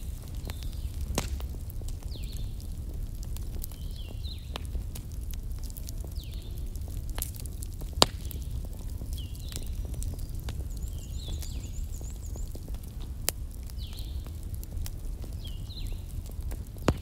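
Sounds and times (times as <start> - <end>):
light crackles and clicks: 0.0 - 17.0.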